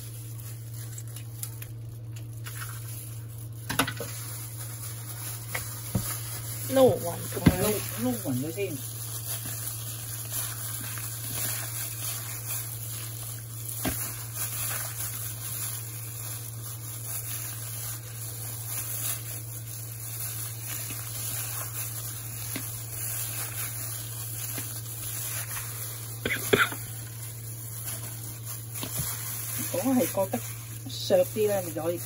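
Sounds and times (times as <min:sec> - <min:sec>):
steady low hum: 0:00.0 - 0:32.0
wet squelching of kneaded meat: 0:00.0 - 0:32.0.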